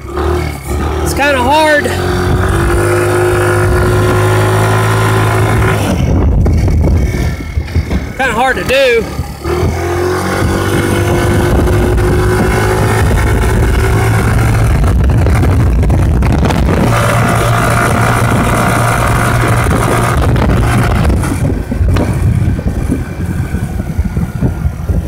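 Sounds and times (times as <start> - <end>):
scooter engine running: 0.0 - 25.0
wind on microphone: 0.0 - 25.0.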